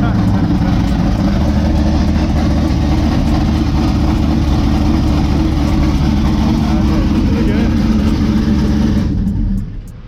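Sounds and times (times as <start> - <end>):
loud engine idling: 0.0 - 10.0.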